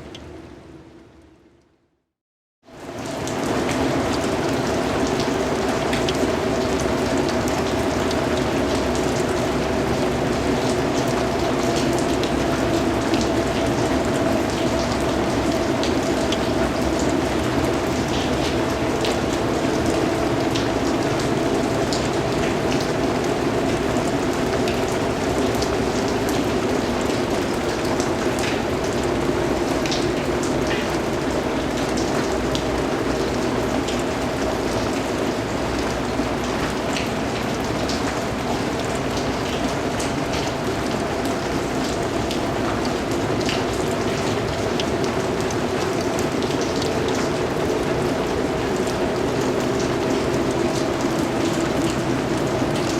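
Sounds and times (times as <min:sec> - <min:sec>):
rain falling: 0:02.7 - 0:52.9.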